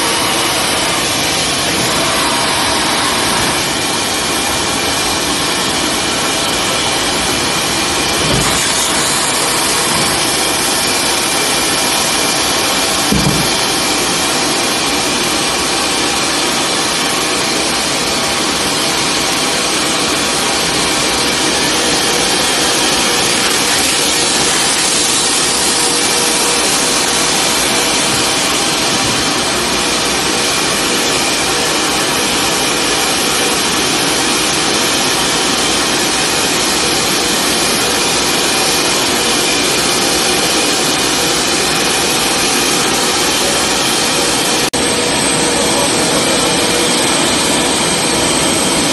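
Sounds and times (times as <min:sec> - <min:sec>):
hydraulic system whine: 0:00.0 - 0:48.9.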